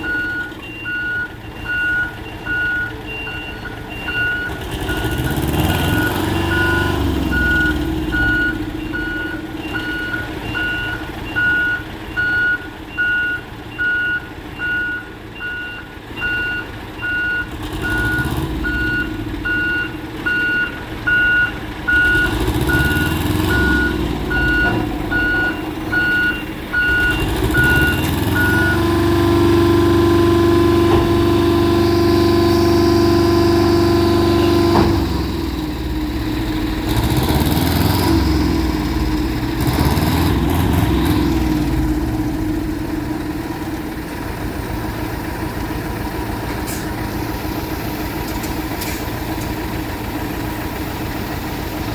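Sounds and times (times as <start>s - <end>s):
diesel engine running: 0.0s - 51.9s
truck reversing alarm beeping: 0.0s - 51.9s.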